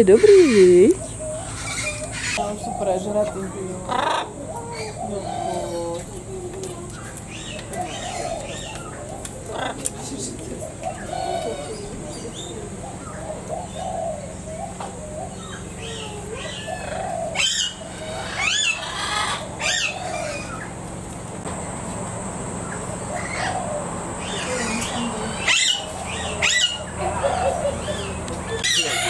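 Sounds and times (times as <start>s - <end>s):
birds squawking: 0.0s - 29.0s.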